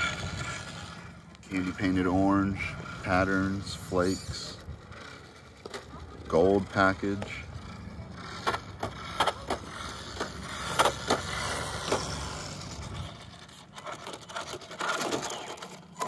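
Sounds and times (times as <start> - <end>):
toy car wheels rolling on asphalt: 0.0 - 16.0.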